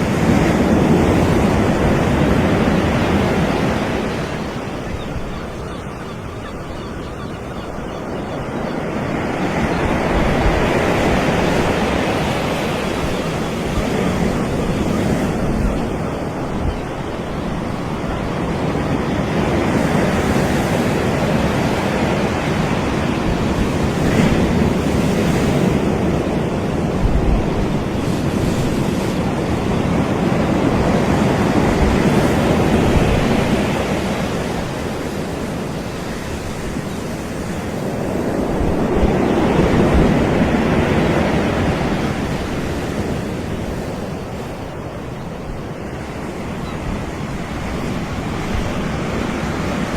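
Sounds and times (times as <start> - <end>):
waves breaking on beach: 0.0 - 49.9.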